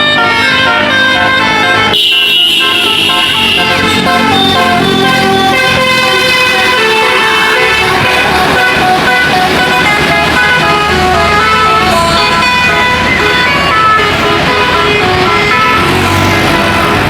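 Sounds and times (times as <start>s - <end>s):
bus air horn playing a tune: 0.0s - 17.0s
low vehicle rumble: 3.2s - 17.0s.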